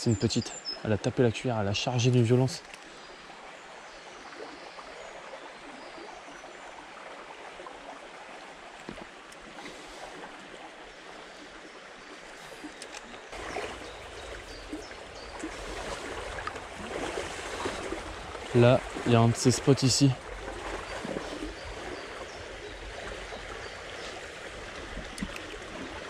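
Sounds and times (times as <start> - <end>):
stream flowing over riffles: 0.0 - 26.0.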